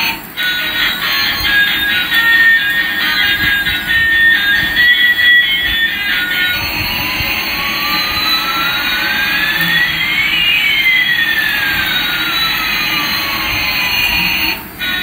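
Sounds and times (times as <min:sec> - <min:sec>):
toy jet engine sound effect: 0:00.0 - 0:15.0.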